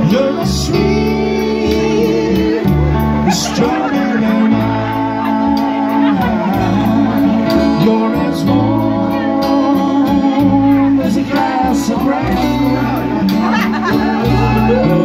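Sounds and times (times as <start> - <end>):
acoustic guitar: 0.0 - 15.0
bass line: 0.0 - 15.0
person singing: 0.0 - 15.0.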